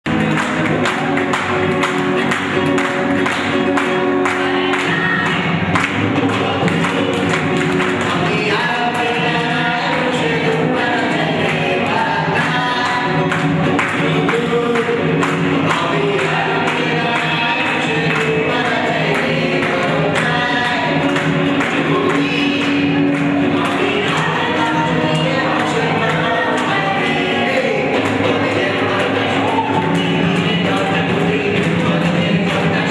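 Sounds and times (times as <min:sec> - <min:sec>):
group of voices singing: 0:00.1 - 0:32.9.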